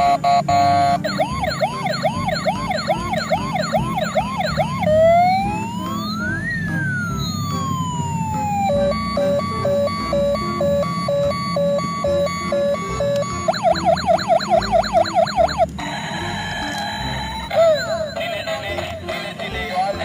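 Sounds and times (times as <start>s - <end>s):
short electronic beeps: 0.0s - 7.6s, 8.6s - 15.6s, 16.3s - 18.8s
toy siren effects: 0.0s - 18.9s
two-tone beeping: 0.0s - 19.0s.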